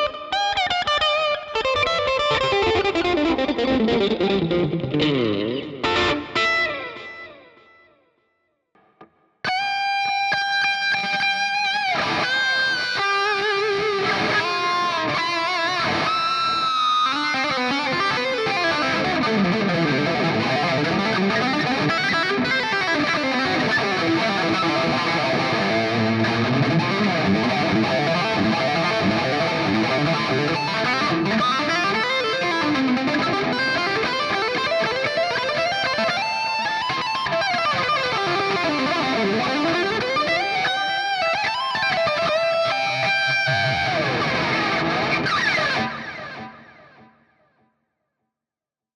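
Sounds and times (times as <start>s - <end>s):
electric guitar: 0.0s - 8.2s, 8.8s - 47.4s.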